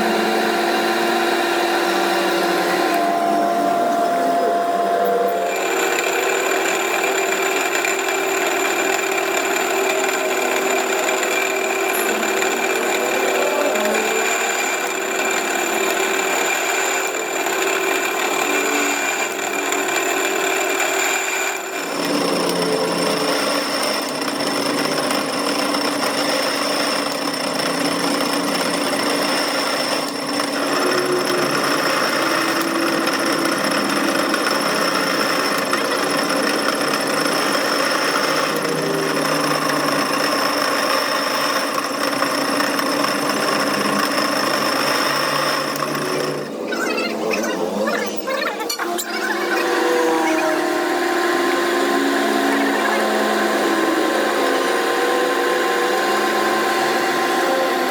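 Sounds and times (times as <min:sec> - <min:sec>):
power tool grinding metal: 0:00.0 - 0:57.9.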